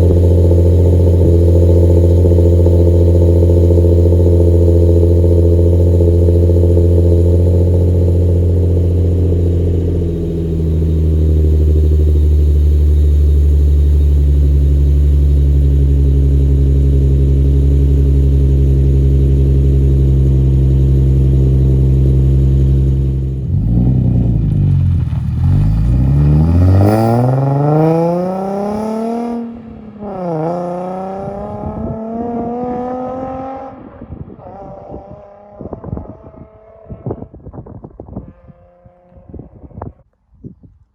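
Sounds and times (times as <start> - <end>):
car engine revving: 0.0 - 37.4.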